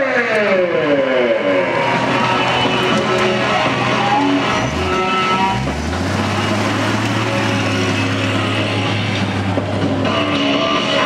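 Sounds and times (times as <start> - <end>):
pickup truck engine pulling away: 1.7 - 11.0.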